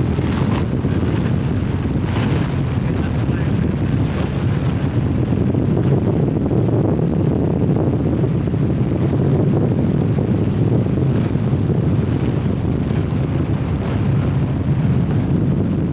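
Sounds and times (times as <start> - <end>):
low engine drone: 0.0 - 15.9
wind rushing over the microphone: 0.0 - 15.9.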